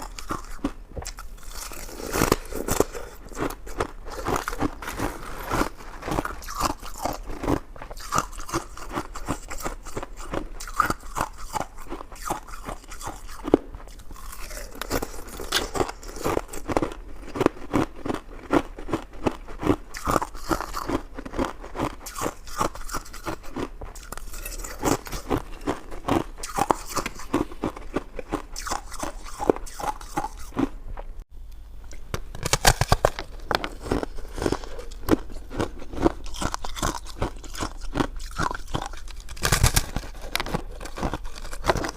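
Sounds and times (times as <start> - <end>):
chewing and biting crunches: 0.0 - 31.1, 31.9 - 41.9.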